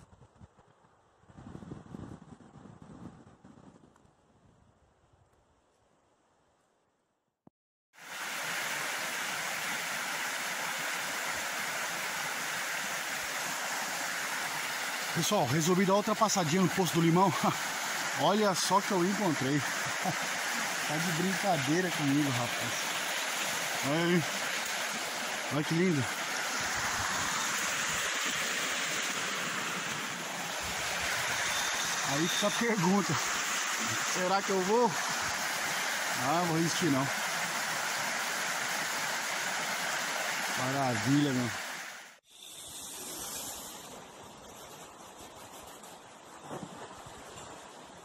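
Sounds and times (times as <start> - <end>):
running water rushing: 8.0 - 48.0.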